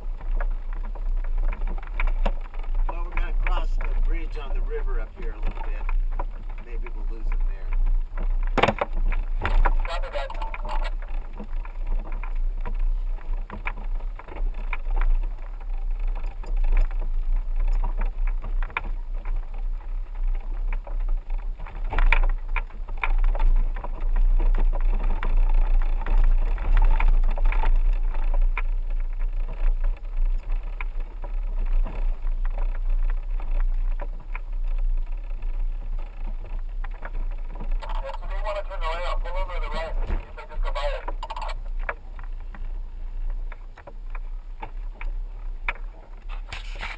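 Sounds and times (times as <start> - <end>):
vehicle knocks and rattles: 0.0 - 46.9
vehicle rumbling on dirt road: 0.0 - 46.9.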